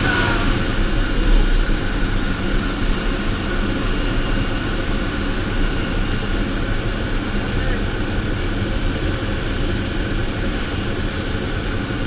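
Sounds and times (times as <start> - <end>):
propeller engine drone: 0.0 - 12.0
wind rush: 0.0 - 12.0.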